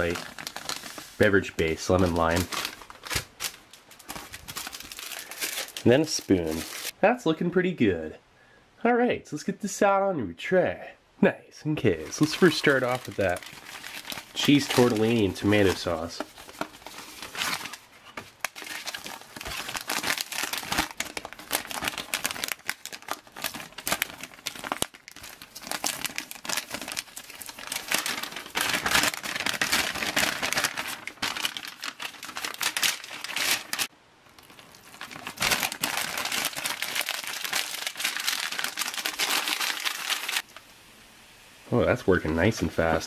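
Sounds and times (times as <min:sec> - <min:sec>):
food packaging crinkling: 0:00.0 - 0:07.0, 0:12.0 - 0:40.6.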